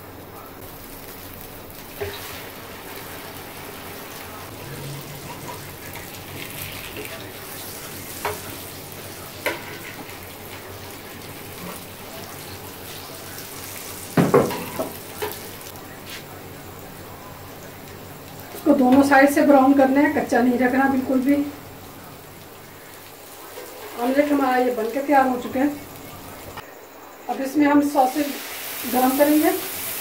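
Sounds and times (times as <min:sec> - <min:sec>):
batter sizzling in oil: 0:00.0 - 0:26.6, 0:27.8 - 0:30.0.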